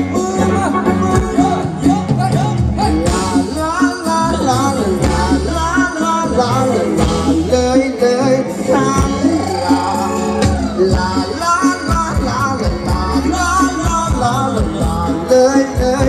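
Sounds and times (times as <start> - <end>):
live band playing dance song: 0.0 - 16.0
person singing: 0.0 - 16.0.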